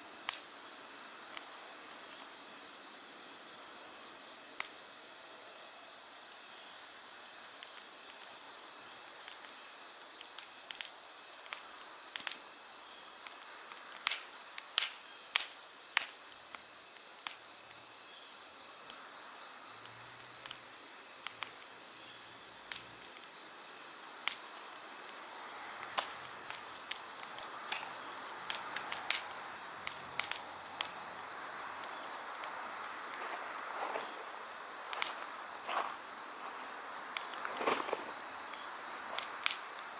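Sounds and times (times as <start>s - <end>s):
campfire crackling and popping: 0.0s - 39.9s
insect chirping: 0.0s - 39.9s
night insects chorus: 0.0s - 39.9s.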